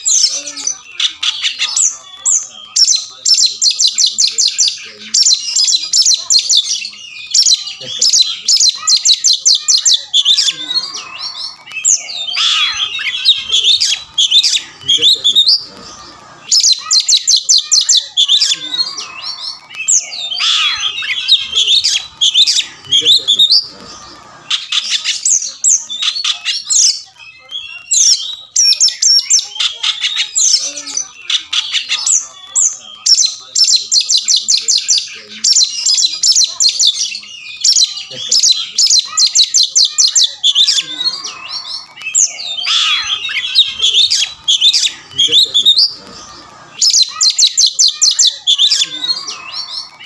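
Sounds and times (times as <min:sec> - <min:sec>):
songbird singing trills and whistles: 0:00.0 - 0:50.0.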